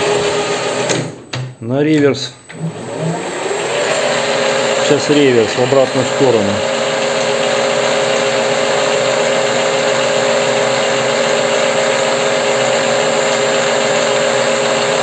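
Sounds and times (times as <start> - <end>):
lathe spindle humming and whining: 2.5 - 15.0.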